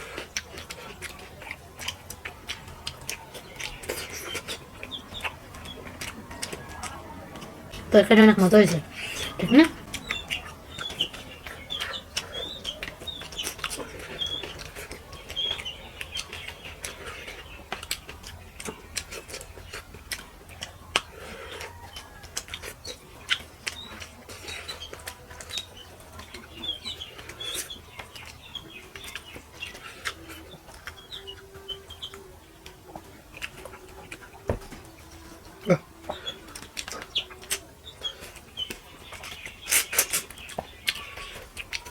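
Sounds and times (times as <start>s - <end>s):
small birds chirping: 0.0s - 41.9s
wet chewing sounds: 0.0s - 41.9s.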